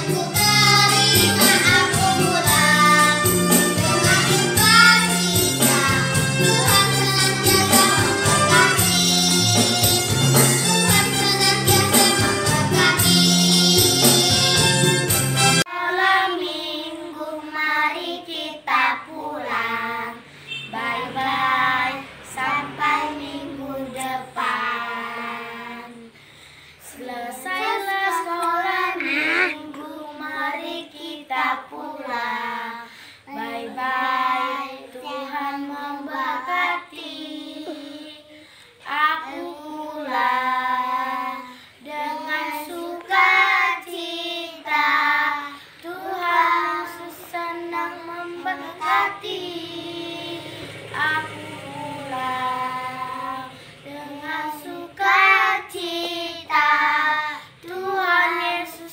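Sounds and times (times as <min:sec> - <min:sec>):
girls singing together: 0:00.0 - 0:10.0, 0:15.6 - 0:58.9.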